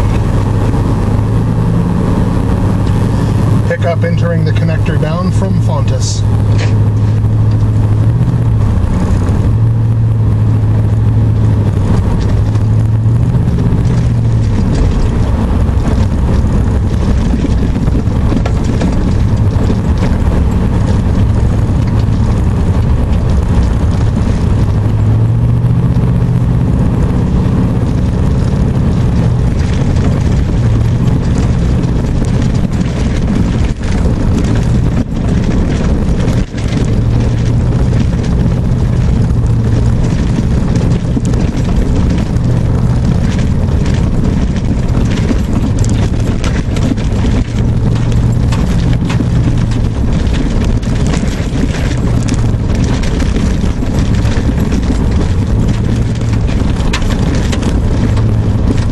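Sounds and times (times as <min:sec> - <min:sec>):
truck engine running: 0:00.0 - 0:58.9
tyre noise on dirt road: 0:00.0 - 0:58.9.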